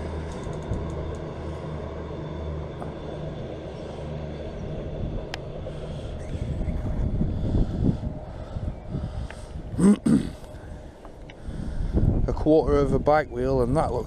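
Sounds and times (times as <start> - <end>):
train passing rumble: 0.0 - 14.0.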